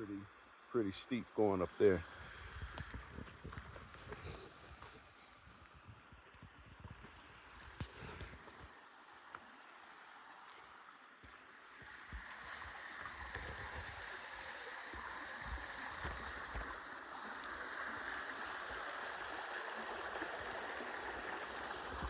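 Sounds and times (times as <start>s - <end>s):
creek water flowing over rocks: 0.0s - 22.0s.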